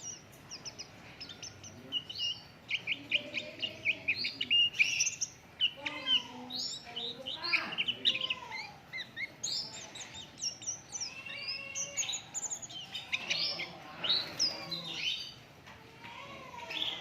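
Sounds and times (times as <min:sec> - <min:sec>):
bird twittering song: 0:00.0 - 0:15.5.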